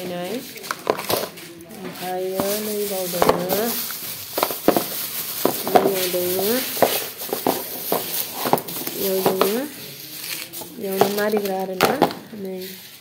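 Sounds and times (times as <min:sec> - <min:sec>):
person speaking: 0:00.0 - 0:13.0
plastic wrapping crinkling: 0:00.0 - 0:13.0.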